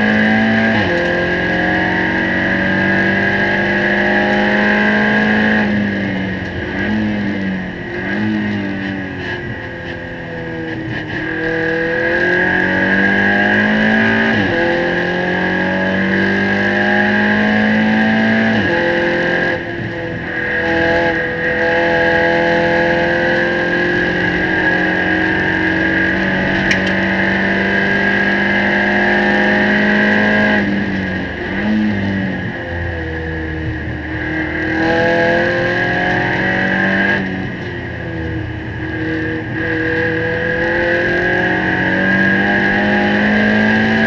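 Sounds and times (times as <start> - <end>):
race car engine at full throttle: 0.0 - 44.0
steady high whine: 0.1 - 44.0.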